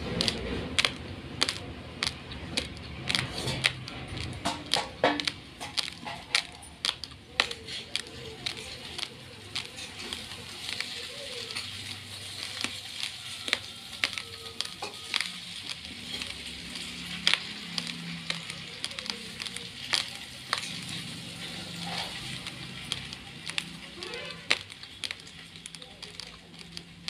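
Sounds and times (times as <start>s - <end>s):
raw rice being chewed: 0.0s - 27.0s.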